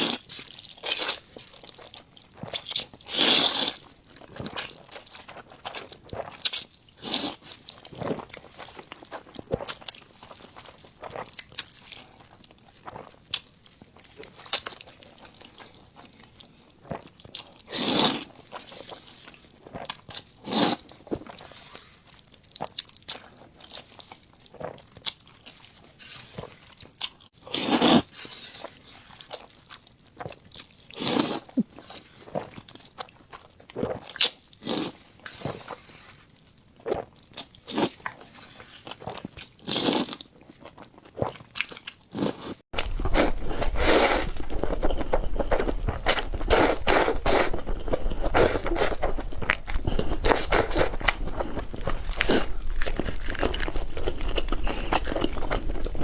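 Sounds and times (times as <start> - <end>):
person chewing crunchy noodles: 0.0 - 56.0.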